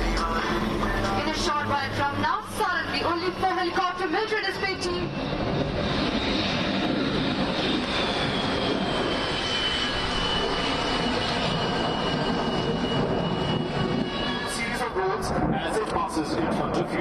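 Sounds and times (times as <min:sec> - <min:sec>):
aircraft engine flying past: 0:00.0 - 0:17.0.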